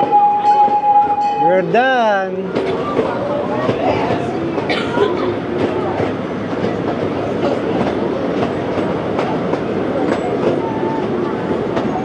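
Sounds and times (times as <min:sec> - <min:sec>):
train rumble: 0:02.4 - 0:12.0.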